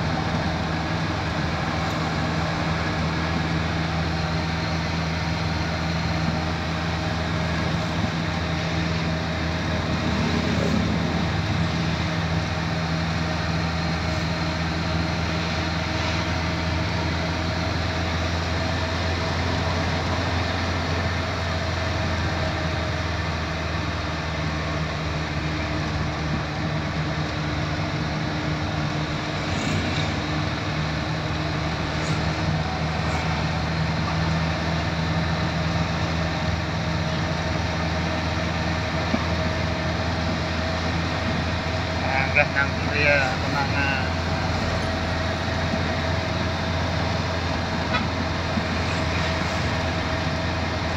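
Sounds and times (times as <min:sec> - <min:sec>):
car engine hum: 0:00.0 - 0:50.9
road noise: 0:00.0 - 0:50.9.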